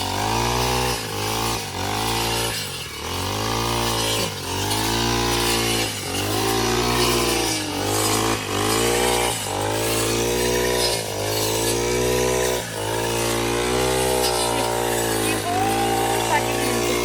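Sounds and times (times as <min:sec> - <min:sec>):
lawn mower engine running hard: 0:00.0 - 0:17.0.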